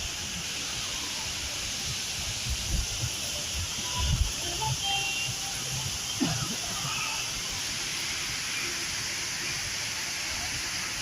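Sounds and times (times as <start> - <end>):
indoor waterfall rushing hiss: 0.0 - 11.0.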